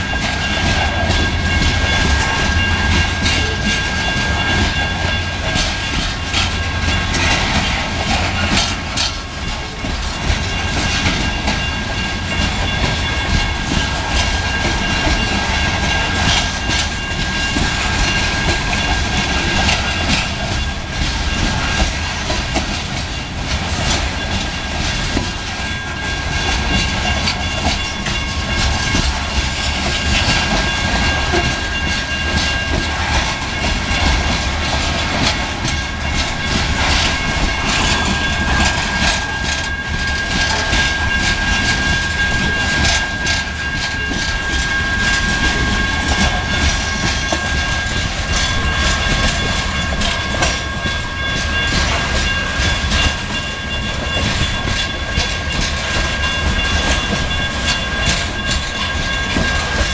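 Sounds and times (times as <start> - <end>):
steady train rumble: 0.0 - 59.9
steel wheels clattering over rail joints: 0.0 - 59.9.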